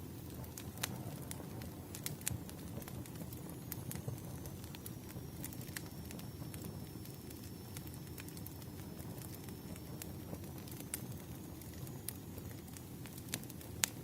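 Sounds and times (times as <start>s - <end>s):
firewood crackling and popping: 0.0s - 14.0s.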